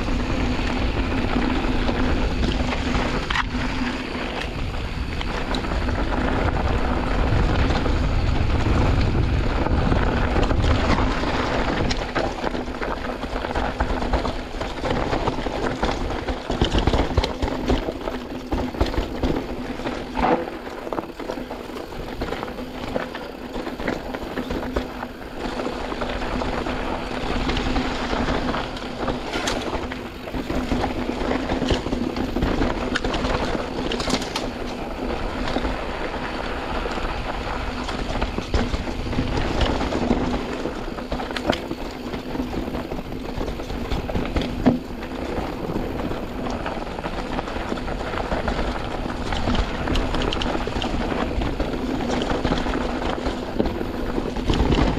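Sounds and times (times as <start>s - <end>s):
bike and chain rattling: 0.0s - 54.9s
bike tyres on dirt: 0.0s - 54.9s
clicks and knocks over bumps: 0.0s - 54.9s.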